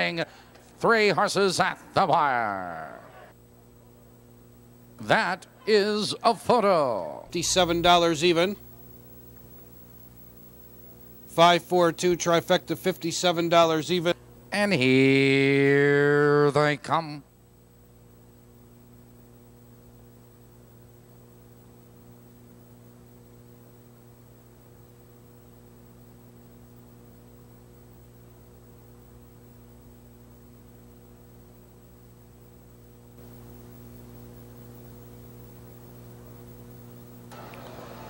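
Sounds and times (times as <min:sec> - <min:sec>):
electrical mains hum: 0:00.0 - 0:38.0
faint high whine and hiss: 0:00.0 - 0:38.0.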